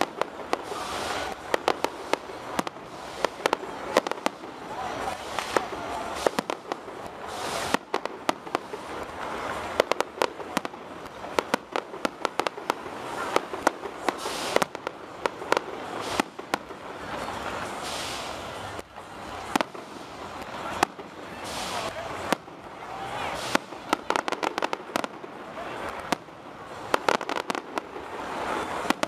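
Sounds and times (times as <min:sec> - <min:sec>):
continuous hiss: 0:00.0 - 0:29.0
fireworks bangs: 0:00.0 - 0:29.0.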